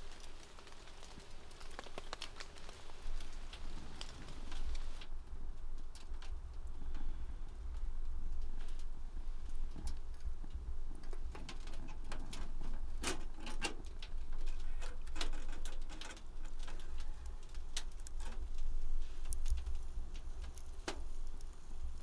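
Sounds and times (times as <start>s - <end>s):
firewood crackling and popping: 0.0s - 22.0s.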